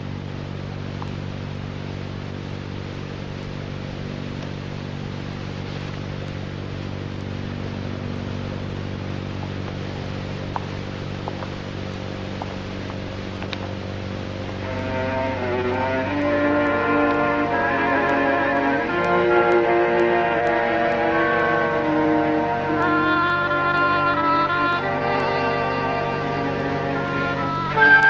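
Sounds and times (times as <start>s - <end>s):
even hiss: 0.0s - 28.0s
faint ticks: 0.0s - 28.0s
low hum with overtones: 0.0s - 28.0s.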